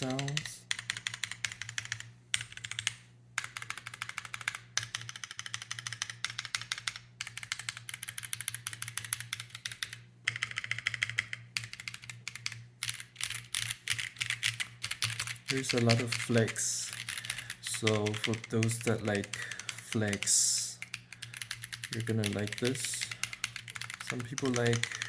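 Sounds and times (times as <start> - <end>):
mechanical keyboard typing: 0.0 - 25.0.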